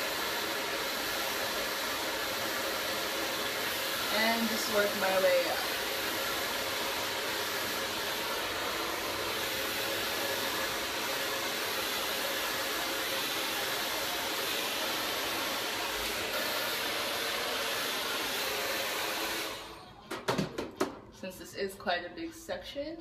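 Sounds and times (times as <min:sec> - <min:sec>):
hair dryer blowing: 0:00.0 - 0:19.9.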